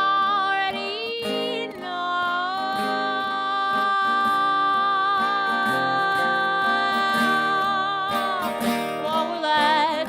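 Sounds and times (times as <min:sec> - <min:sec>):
strummed acoustic guitar: 0:00.0 - 0:10.0
woman singing: 0:00.0 - 0:10.0.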